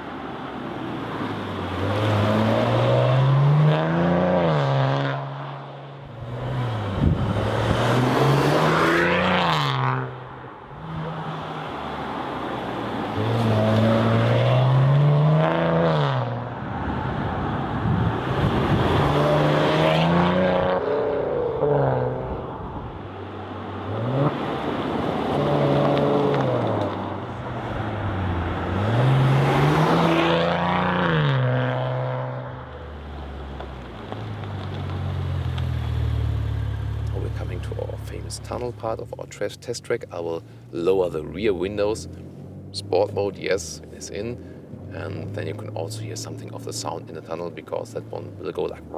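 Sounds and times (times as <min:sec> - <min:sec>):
car engine revving: 0:01.5 - 0:16.5, 0:18.1 - 0:22.4, 0:23.8 - 0:48.9.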